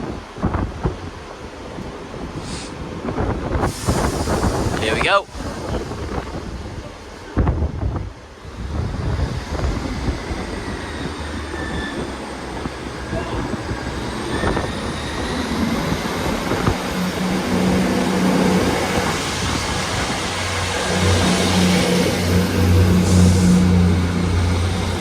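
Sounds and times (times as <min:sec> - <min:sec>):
diesel train engines under power: 0:00.0 - 0:25.0.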